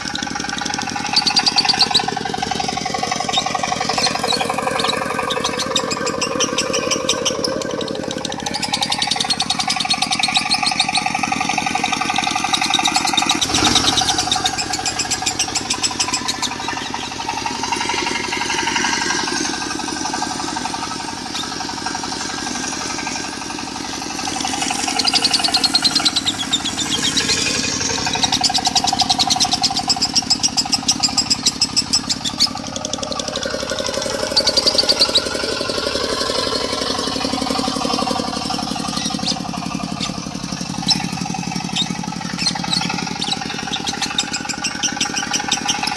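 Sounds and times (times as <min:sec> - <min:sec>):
diesel engine idling: 0:00.0 - 0:45.9
lovebird chattering trill: 0:00.8 - 0:45.9.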